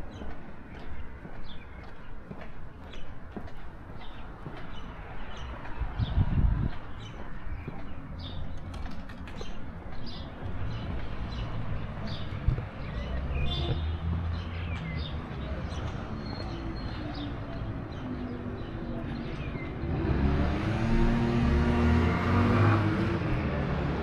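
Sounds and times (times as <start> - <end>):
small birds chirping: 0.0 - 20.6
low street rumble: 0.0 - 24.0
motor vehicle approaching: 3.6 - 24.0.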